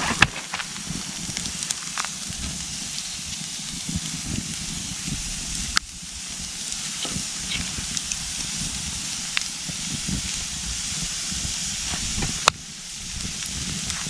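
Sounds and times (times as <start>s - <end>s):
campfire hissing and crackling: 0.0s - 14.0s.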